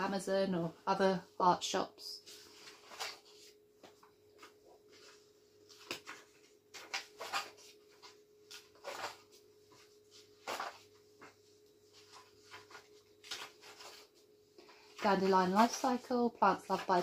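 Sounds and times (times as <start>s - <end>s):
book pages turning: 2.2s - 17.0s.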